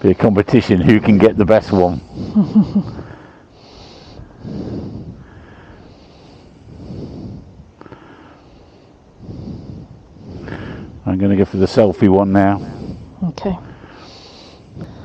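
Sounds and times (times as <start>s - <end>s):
person breathing softly: 1.8s - 15.0s.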